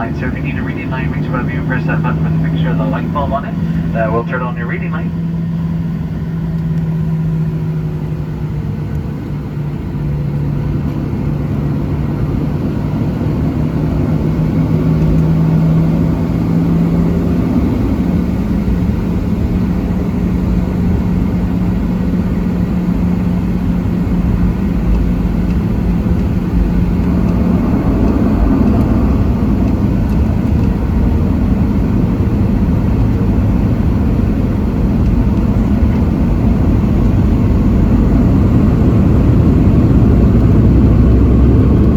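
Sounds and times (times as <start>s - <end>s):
jet engine hum in cabin: 0.0s - 41.9s.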